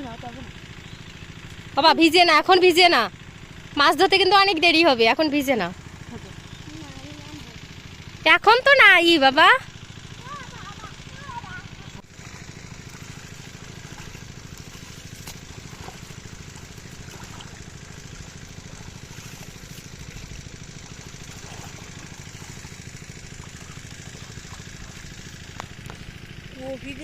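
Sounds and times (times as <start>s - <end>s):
water pump engine running: 0.0s - 27.0s.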